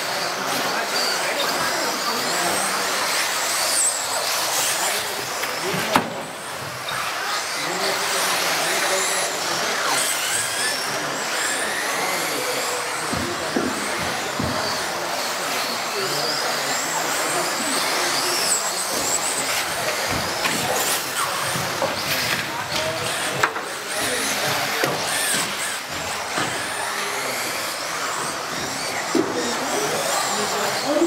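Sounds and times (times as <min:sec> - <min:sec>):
electric rc car motors whining: 0:00.0 - 0:31.0
noisy hall background: 0:00.0 - 0:31.0.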